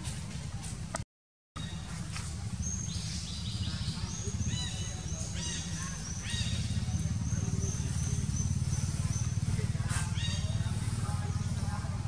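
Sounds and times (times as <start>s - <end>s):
birds chirping: 1.6s - 12.0s.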